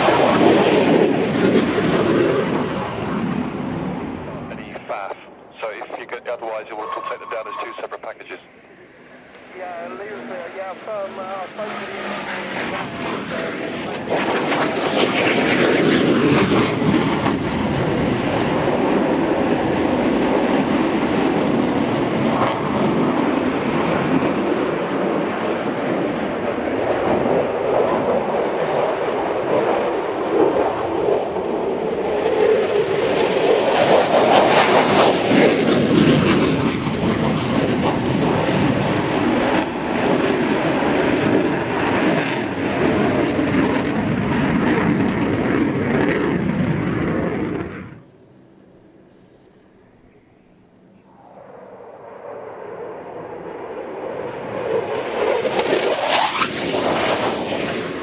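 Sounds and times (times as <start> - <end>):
aircraft engine rushing: 0.0 - 58.0.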